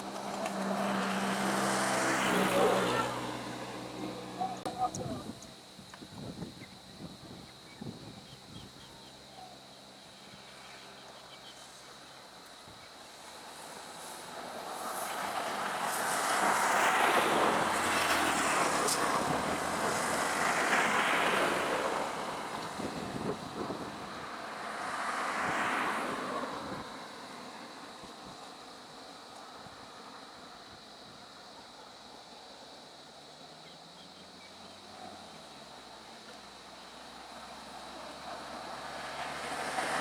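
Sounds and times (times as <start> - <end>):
vehicles driving past: 0.0 - 5.8, 9.1 - 30.8, 34.1 - 40.0.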